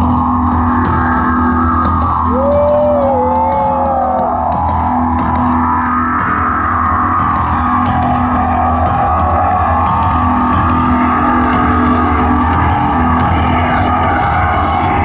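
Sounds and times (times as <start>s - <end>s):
loud droning live music: 0.0s - 15.0s.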